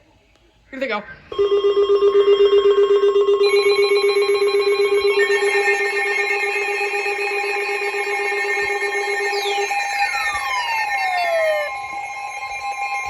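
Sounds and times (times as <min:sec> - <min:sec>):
phone emergency alert tones: 0:01.3 - 0:13.0.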